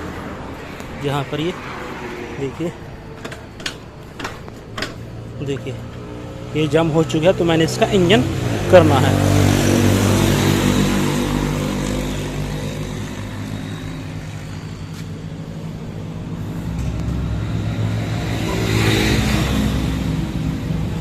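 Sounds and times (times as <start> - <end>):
vehicle engine running: 2.8 - 21.0.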